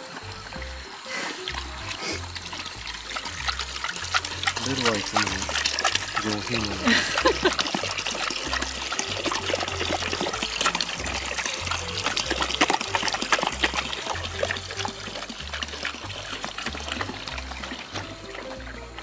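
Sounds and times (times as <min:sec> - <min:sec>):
dog lapping water: 0:00.0 - 0:19.0
hose water running into bucket: 0:00.0 - 0:19.0
small water splashes: 0:00.0 - 0:19.0.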